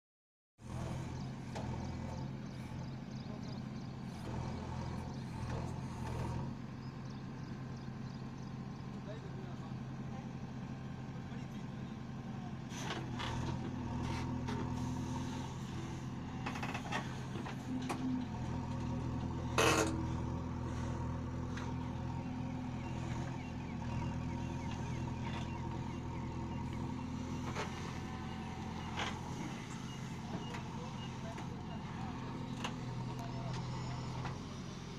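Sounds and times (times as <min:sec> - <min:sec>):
backhoe diesel engine running: 0:00.6 - 0:34.9.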